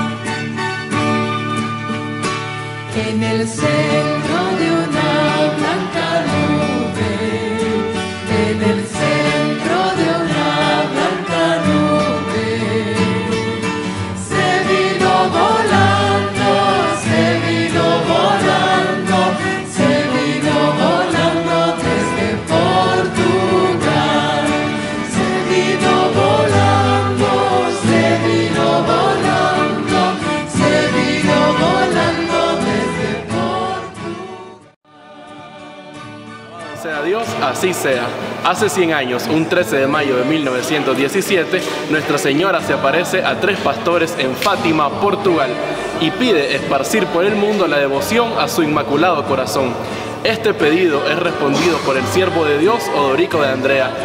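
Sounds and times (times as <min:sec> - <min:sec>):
choir singing a hymn: 0:02.9 - 0:54.0.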